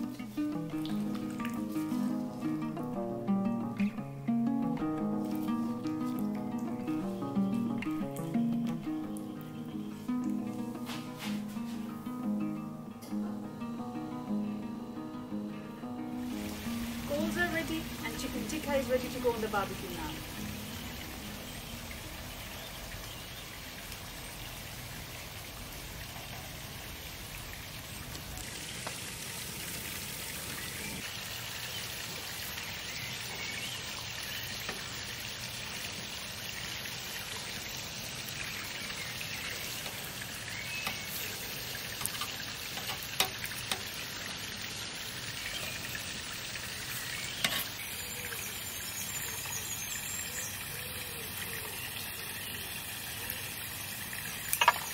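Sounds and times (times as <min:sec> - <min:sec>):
meat sizzling over charcoal: 0:00.0 - 0:03.6, 0:04.6 - 0:12.4, 0:15.3 - 0:54.9.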